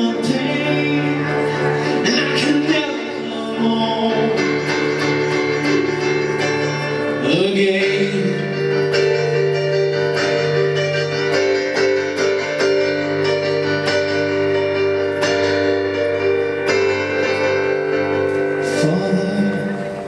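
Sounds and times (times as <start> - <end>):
electronic keyboard chords: 0.0 - 20.0.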